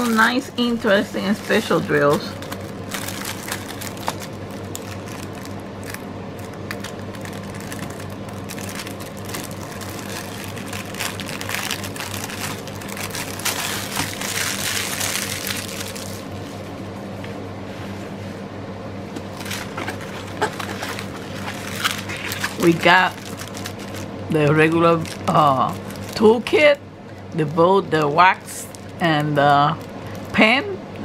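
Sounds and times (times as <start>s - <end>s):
plastic sleeve crinkling: 0.0s - 16.5s, 19.3s - 26.6s, 27.4s - 30.4s.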